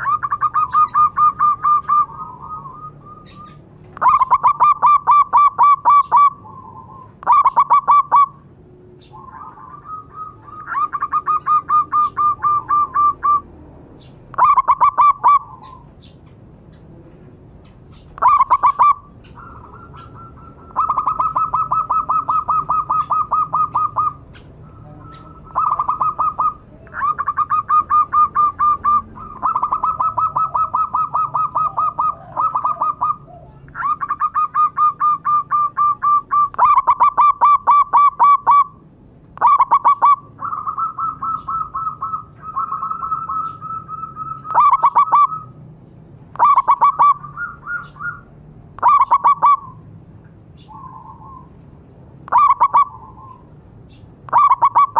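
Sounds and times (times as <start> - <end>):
dove cooing: 0.0 - 13.5, 14.3 - 16.2, 17.9 - 38.8, 39.4 - 45.6, 46.3 - 49.8, 50.6 - 51.6, 52.3 - 53.5, 54.3 - 54.9.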